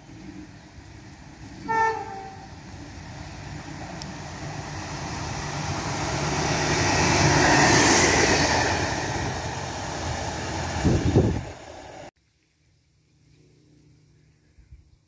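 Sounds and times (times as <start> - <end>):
railcar passing at speed: 0.0 - 12.1.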